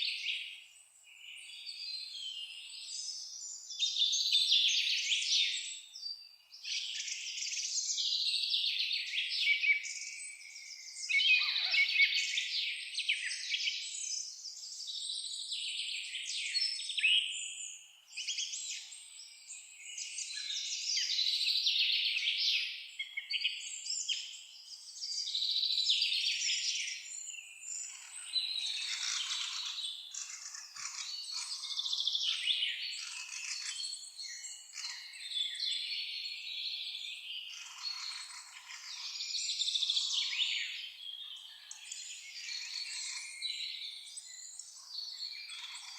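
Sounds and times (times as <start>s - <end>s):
songbirds chirping and singing: 0.0s - 45.9s.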